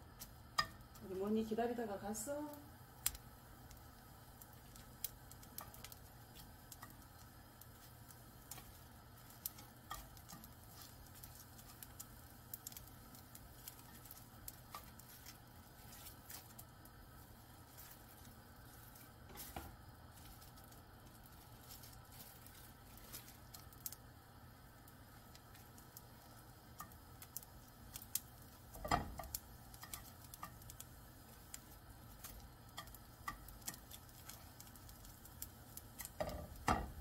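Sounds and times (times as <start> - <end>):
seaweed sheets crackling in a pan: 0.0 - 37.0.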